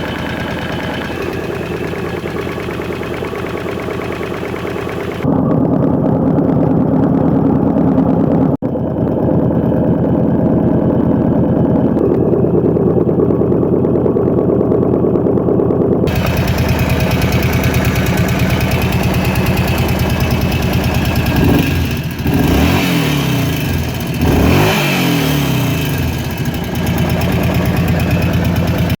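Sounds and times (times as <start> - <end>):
atv engine idling and revving: 0.0 - 29.0.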